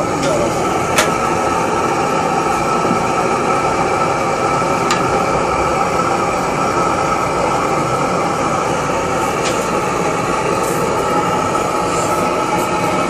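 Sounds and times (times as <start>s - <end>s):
blowtorch hissing: 0.0s - 13.0s.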